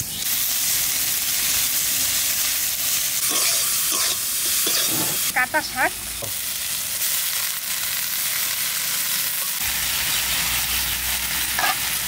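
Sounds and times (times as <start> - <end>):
greens sizzling in oil: 0.0 - 12.0.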